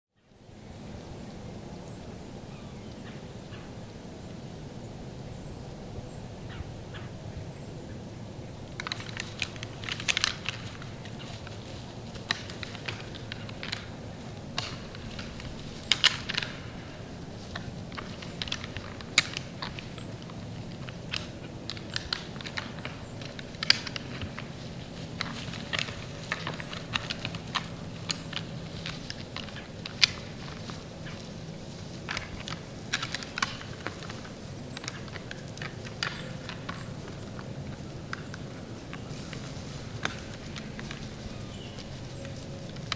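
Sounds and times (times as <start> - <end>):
steady background noise: 0.2 - 42.9.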